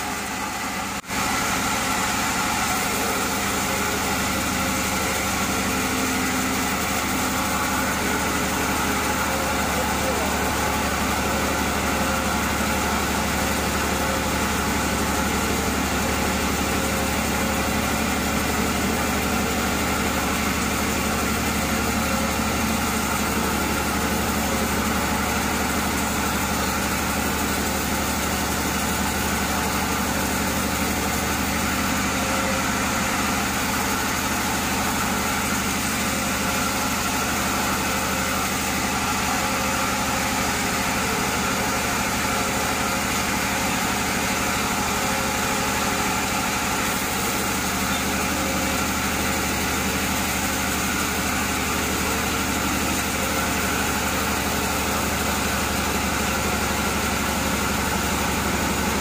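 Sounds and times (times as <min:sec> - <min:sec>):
band sawmill humming: 0:00.0 - 0:59.0.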